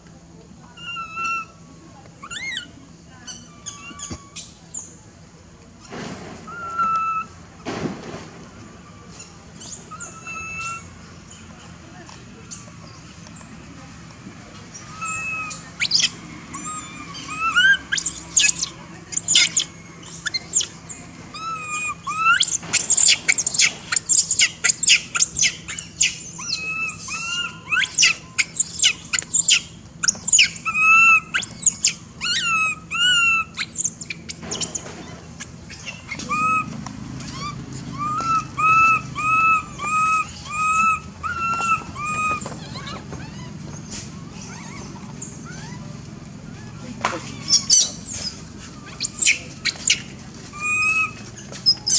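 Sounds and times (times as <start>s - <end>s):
animal chirping and squeaking: 0.7s - 1.6s, 2.2s - 5.0s, 5.8s - 7.4s, 9.0s - 11.7s, 12.5s - 13.5s, 14.7s - 51.9s.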